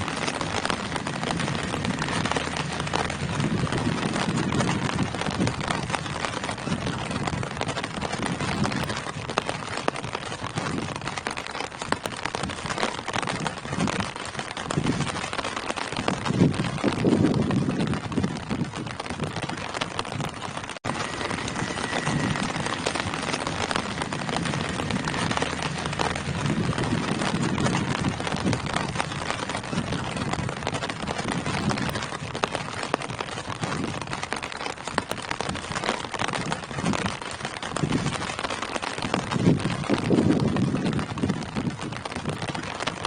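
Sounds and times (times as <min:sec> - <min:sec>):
rain falling on foliage: 0:00.0 - 0:43.0.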